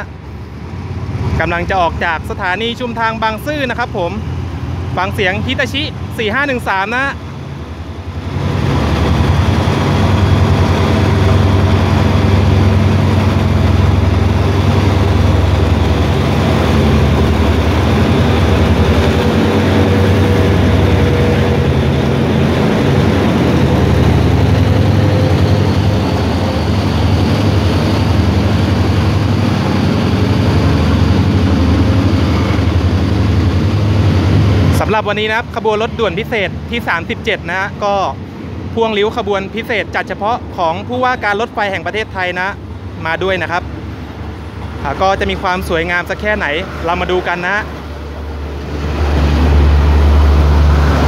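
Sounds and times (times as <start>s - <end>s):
locomotive diesel engine drone: 0.0s - 51.0s.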